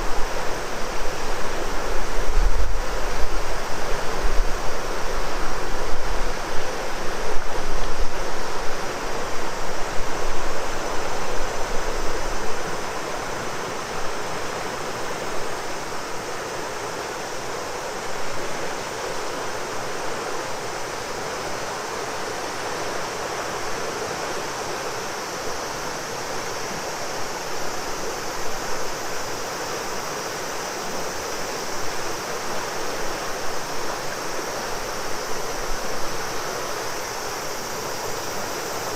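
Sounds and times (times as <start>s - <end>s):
cicadas buzzing: 0.0s - 38.9s
river water rushing: 0.0s - 38.9s.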